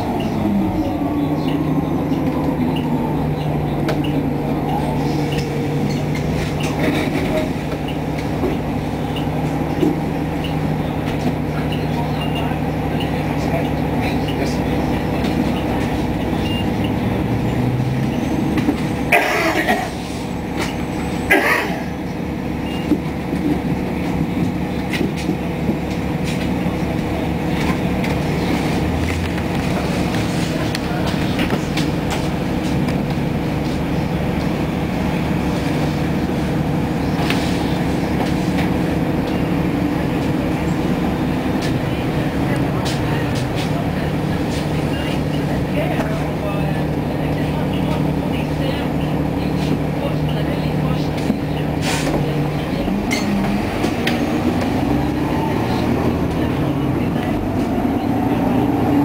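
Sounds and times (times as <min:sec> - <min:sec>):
bus engine droning: 0:00.0 - 0:59.0.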